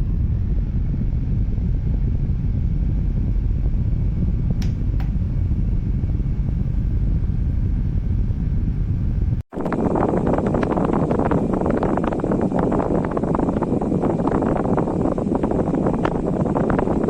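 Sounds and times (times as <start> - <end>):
desk fan air rushing: 0.0 - 17.0.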